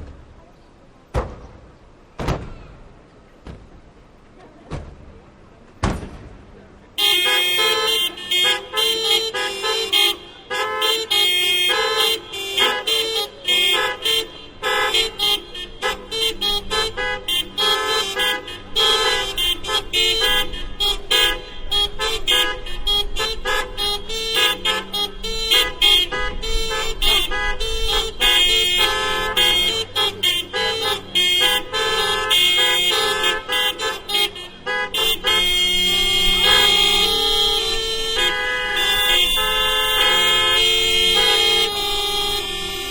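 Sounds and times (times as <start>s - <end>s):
car horns honking rhythmically: 7.0s - 42.9s.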